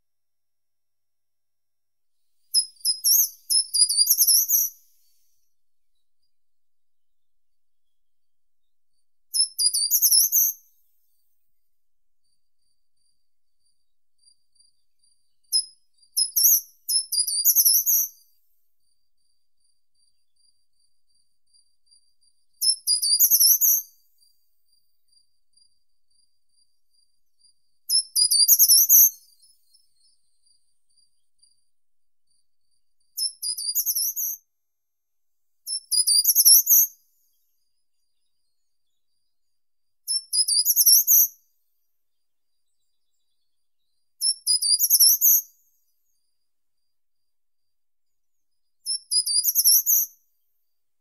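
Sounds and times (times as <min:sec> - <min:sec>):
bird song phrases: 0:02.3 - 0:06.4, 0:07.0 - 0:11.5, 0:12.2 - 0:24.9, 0:25.6 - 0:31.7, 0:32.3 - 0:34.4, 0:35.6 - 0:46.3, 0:48.1 - 0:50.4.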